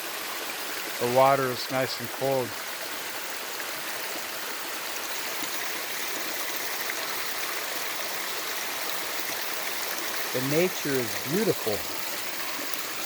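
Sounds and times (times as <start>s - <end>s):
stream of water rushing: 0.0s - 13.0s
water trickling: 0.0s - 13.0s.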